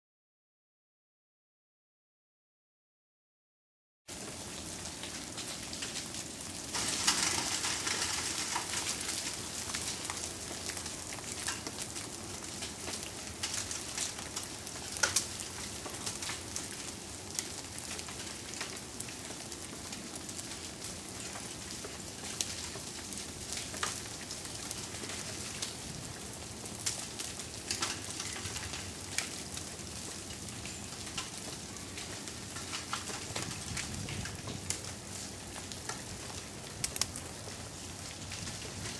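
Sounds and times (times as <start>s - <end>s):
ice crackling and ticking: 4.9s - 38.9s.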